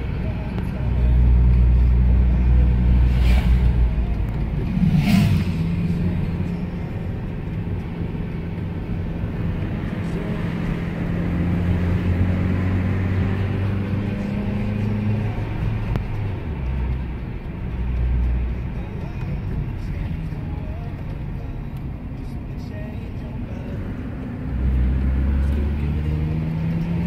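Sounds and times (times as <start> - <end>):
car engine and tyre drone: 0.0 - 27.0.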